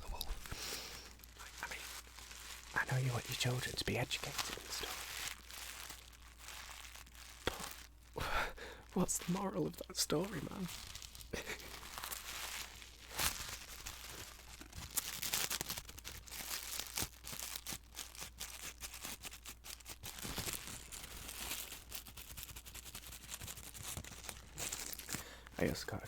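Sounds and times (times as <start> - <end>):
hands crinkling material: 0.0 - 26.0.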